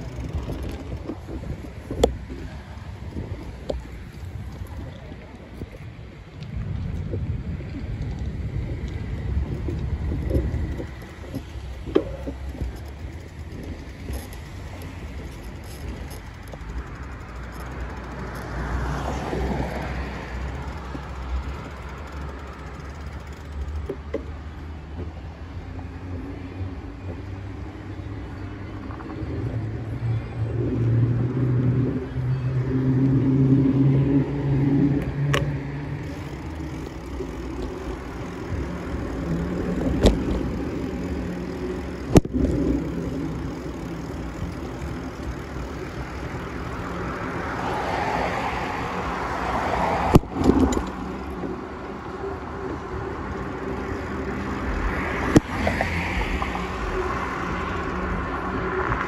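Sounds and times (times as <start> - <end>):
road traffic rumble: 0.0 - 59.0
vehicle engine hum: 0.0 - 59.0.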